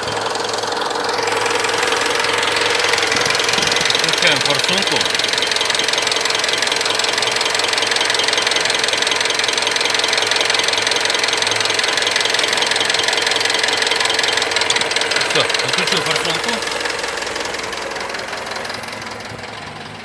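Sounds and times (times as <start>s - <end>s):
diesel engine idling with knock: 0.0s - 20.0s.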